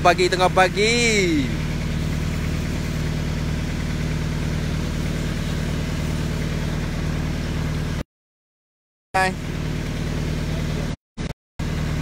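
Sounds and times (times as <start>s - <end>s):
boat engine idling: 0.0s - 8.0s, 9.2s - 11.0s.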